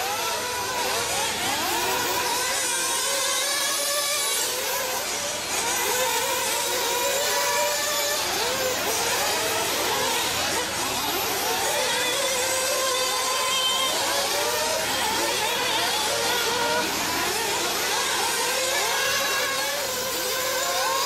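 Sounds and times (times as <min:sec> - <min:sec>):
model car engines buzzing at high revs: 0:00.0 - 0:21.0.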